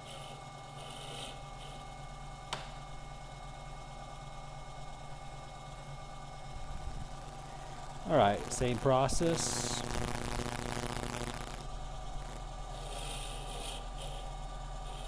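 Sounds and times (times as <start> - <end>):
lathe humming: 0.0 - 15.0.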